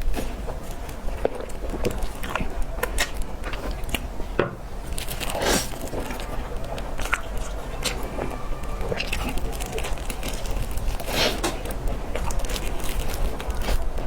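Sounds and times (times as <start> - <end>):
chewing cake with mouth clicks: 0.0 - 14.0.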